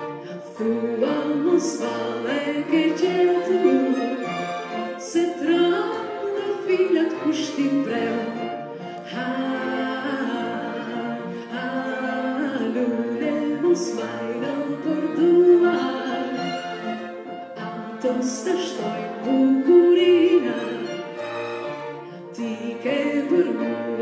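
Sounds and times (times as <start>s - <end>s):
piano: 0.0s - 24.0s
string quartet: 0.0s - 24.0s
woman singing with vibrato: 0.3s - 4.4s, 5.0s - 16.6s, 17.6s - 21.0s, 22.1s - 24.0s.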